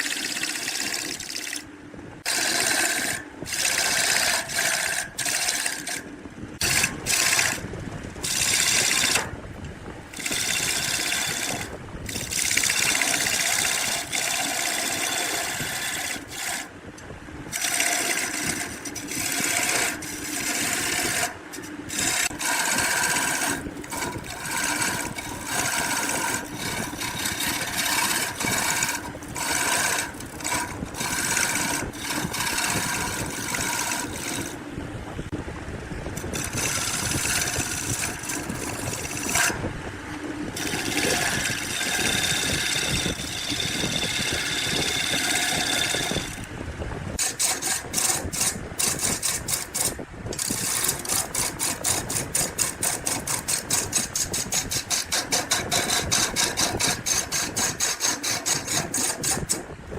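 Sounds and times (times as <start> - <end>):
tool rasping wood: 0.0 - 1.6, 2.2 - 9.3, 10.1 - 16.7, 17.5 - 34.6, 36.2 - 39.6, 40.6 - 46.5, 47.2 - 59.7.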